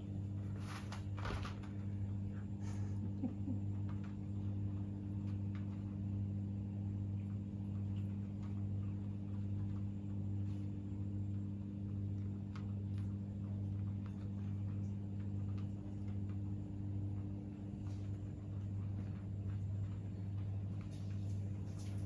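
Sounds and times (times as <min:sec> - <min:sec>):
cat water fountain pump humming: 0:00.0 - 0:22.0.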